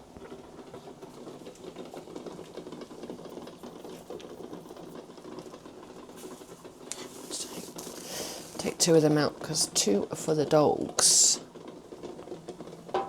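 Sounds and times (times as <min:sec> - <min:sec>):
boiling water: 0:00.0 - 0:13.0.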